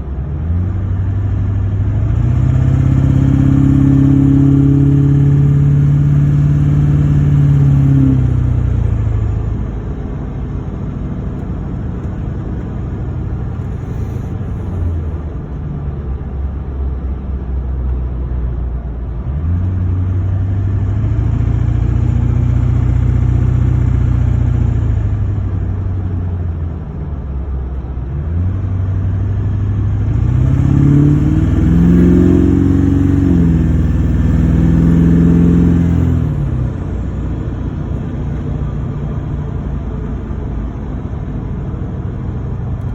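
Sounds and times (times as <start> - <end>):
diesel engine revving: 0.0 - 16.2, 19.1 - 42.9.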